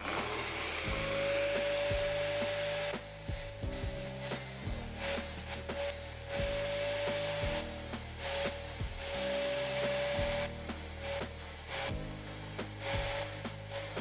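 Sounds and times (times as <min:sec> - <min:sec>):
angle grinder whining: 0:00.0 - 0:14.0
background music: 0:00.0 - 0:14.0
drill bit grinding on disc: 0:00.0 - 0:14.0.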